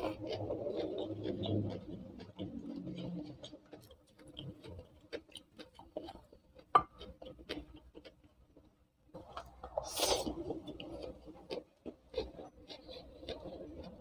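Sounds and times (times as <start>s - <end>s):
chewing clicks and smacks: 0.0s - 14.0s.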